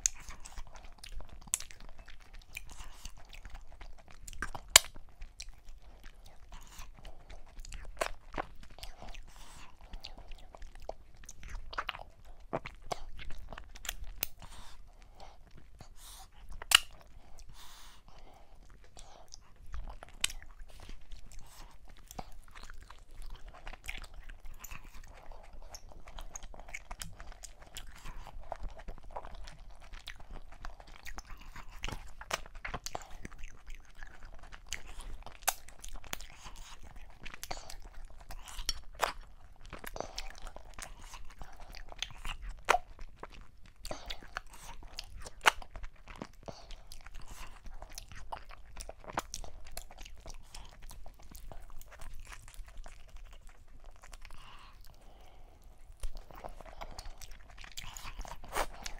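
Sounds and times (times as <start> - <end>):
wet chewing and lip smacks: 0.0 - 58.9.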